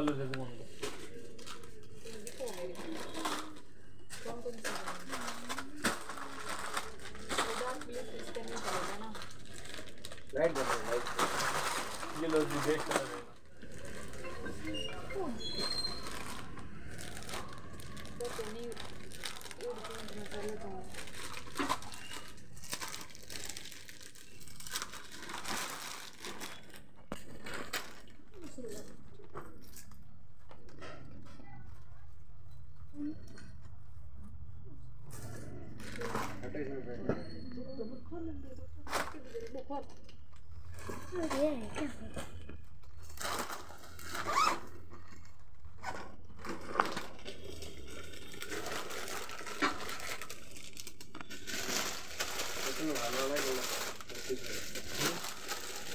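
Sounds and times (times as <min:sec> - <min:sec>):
plastic packaging crinkling: 0:00.0 - 0:30.2, 0:38.9 - 0:55.9.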